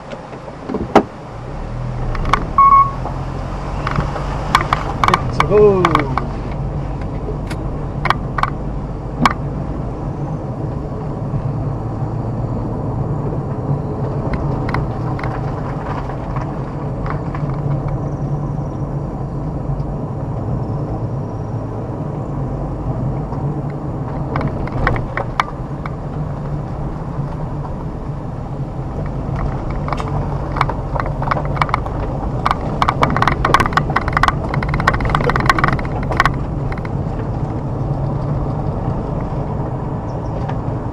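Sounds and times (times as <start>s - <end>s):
knocks and clatters from road: 0.0s - 11.9s, 12.6s - 21.6s, 23.0s - 40.9s
car engine and road hum: 0.0s - 40.9s.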